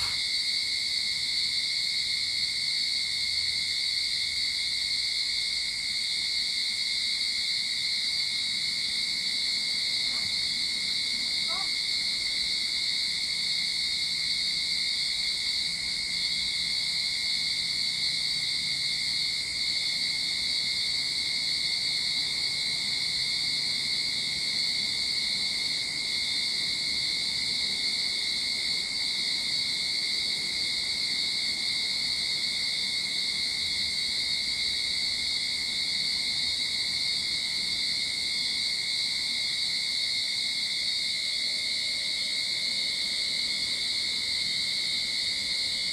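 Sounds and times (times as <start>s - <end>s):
cicadas singing: 0.0s - 45.9s.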